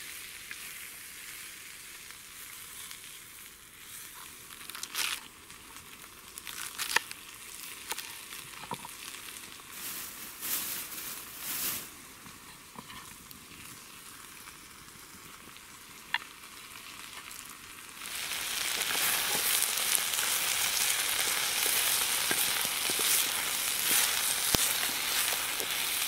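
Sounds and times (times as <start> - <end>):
food sizzling in pan: 0.0 - 26.0.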